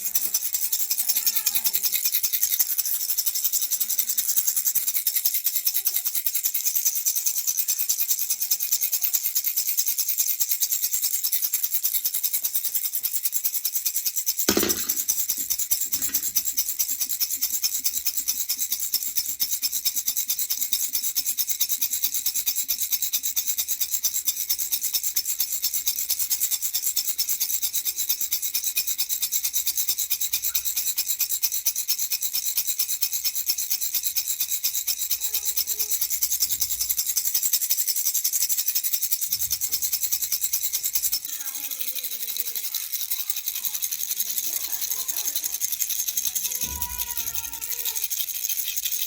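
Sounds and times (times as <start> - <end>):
baby rattle shaking: 0.0 - 49.0.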